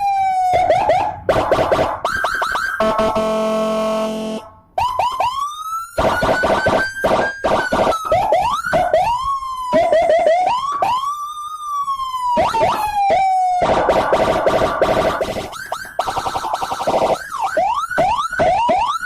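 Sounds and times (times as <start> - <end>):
siren chirps: 0.0 - 19.0
siren wailing: 0.0 - 19.0.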